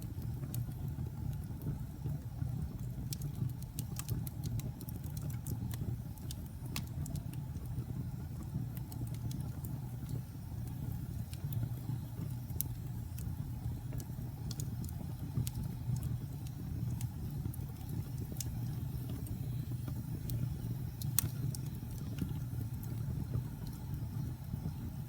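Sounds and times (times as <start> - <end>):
wood fire burning: 0.0 - 25.0.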